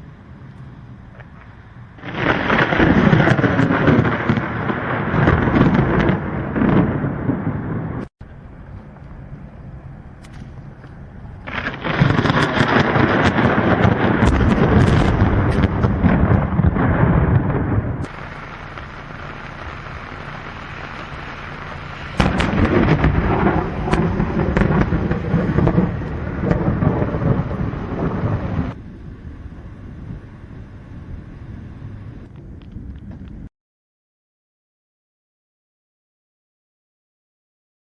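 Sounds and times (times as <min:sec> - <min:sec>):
rain: 0:00.0 - 0:33.5
thunder rolling: 0:02.0 - 0:09.9, 0:10.5 - 0:33.4.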